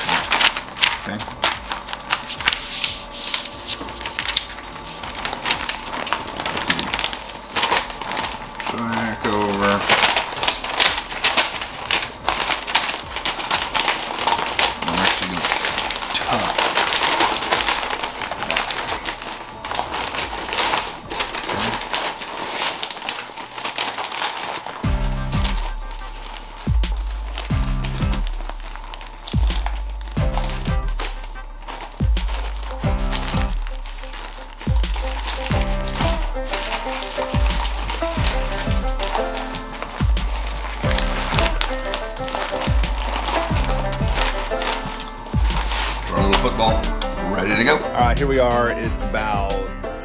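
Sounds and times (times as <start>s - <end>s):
paper rustling and crinkling: 0.0s - 48.9s.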